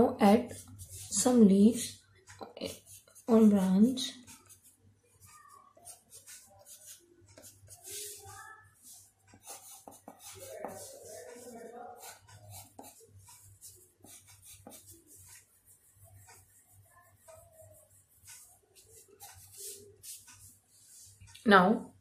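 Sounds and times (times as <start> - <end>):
pencil scratching on paper: 0.2 - 21.3.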